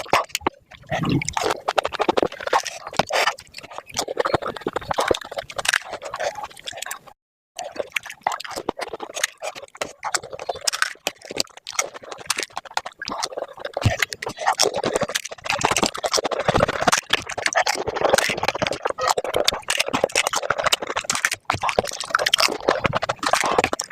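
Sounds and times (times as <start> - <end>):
wet slurping: 0.0 - 23.9.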